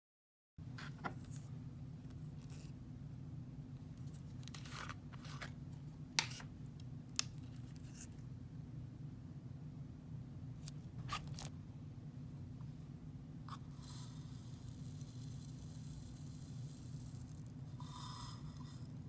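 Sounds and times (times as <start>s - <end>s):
steady low hum: 0.6s - 19.0s.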